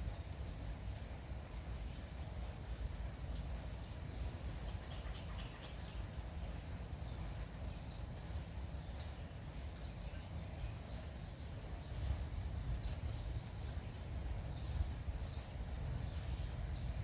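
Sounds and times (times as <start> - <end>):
light rain hiss: 0.0 - 17.0
small birds chirping: 0.6 - 17.0.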